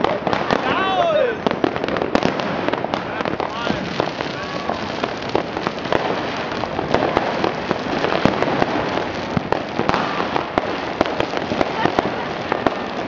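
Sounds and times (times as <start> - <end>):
firecrackers crackling: 0.0 - 13.0
firework bangs: 0.0 - 13.0.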